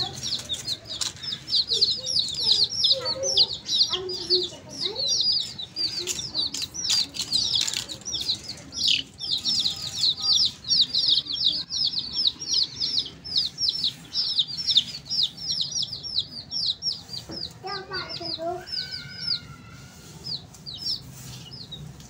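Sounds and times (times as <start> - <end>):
baby chicks peeping: 0.0 - 22.0.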